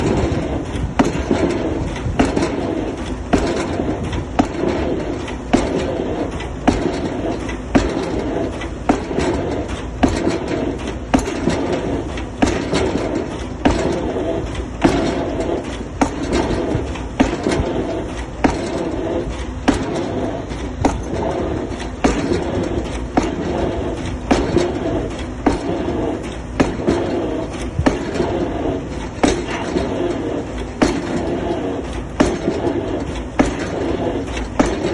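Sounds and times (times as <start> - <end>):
machine rumble: 0.0 - 34.9.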